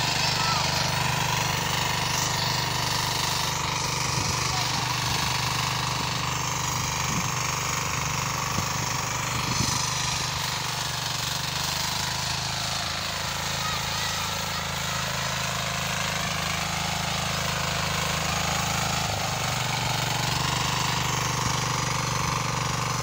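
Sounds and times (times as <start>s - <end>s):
power tiller engine running: 0.0s - 23.0s
tines churning dry soil: 0.0s - 23.0s.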